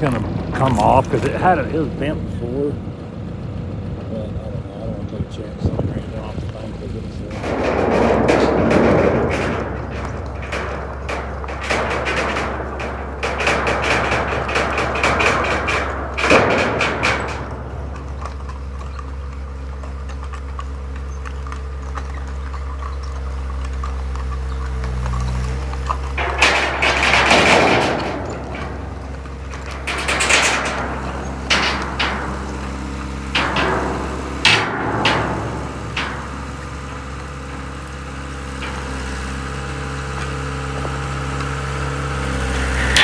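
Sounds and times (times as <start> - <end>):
diesel engine running: 0.0 - 43.0
metal clanking and rattling: 0.0 - 43.0.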